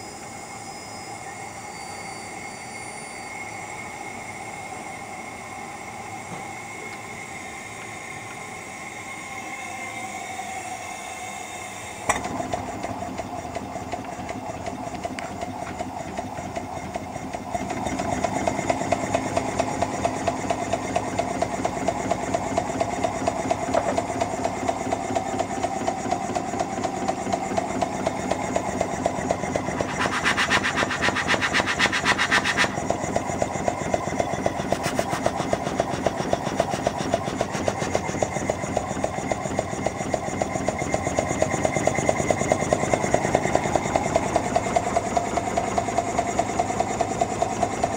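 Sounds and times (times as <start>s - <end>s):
model steam locomotive running on air: 0.0s - 47.9s.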